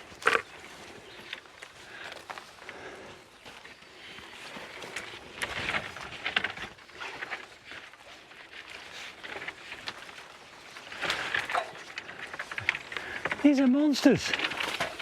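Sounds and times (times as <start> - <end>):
branches snapping: 0.0 - 3.0, 4.1 - 15.0
undergrowth rustling and crackling: 0.0 - 15.0.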